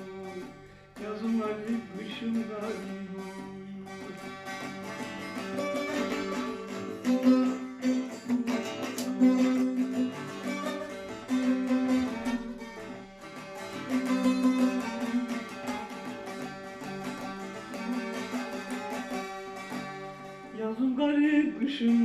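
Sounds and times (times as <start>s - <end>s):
plucked lute with drone strings: 0.0s - 22.0s.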